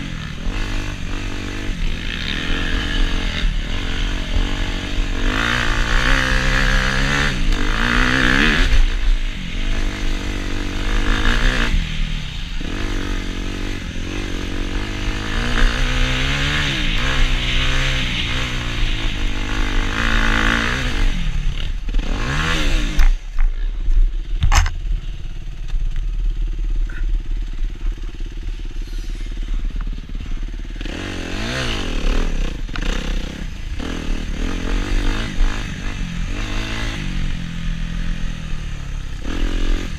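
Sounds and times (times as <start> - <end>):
dirt bike engine revving: 0.0 - 25.6, 26.2 - 39.9.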